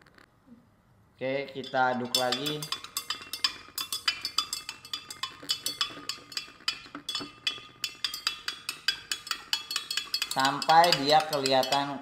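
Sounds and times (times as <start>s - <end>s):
glass rod clinking in beaker: 1.6s - 12.0s.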